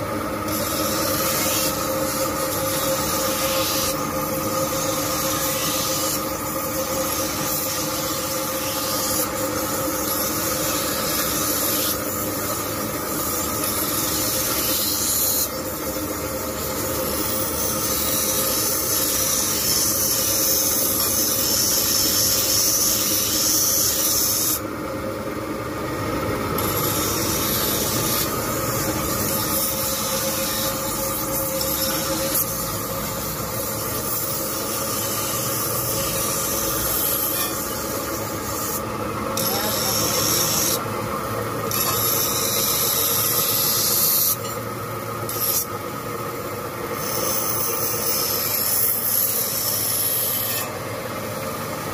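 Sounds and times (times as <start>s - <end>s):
electric motor hum: 0.0s - 51.9s
steel grinding on abrasive wheel: 0.4s - 24.6s, 26.6s - 40.8s, 41.6s - 44.6s, 45.3s - 45.7s, 47.0s - 50.8s.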